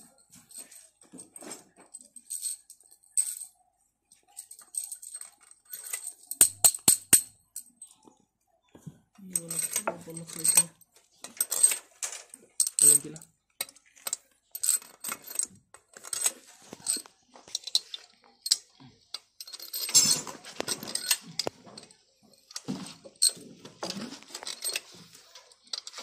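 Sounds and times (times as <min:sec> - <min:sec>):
metallic clinks of bolts and tools: 0:00.0 - 0:07.9, 0:09.3 - 0:26.0.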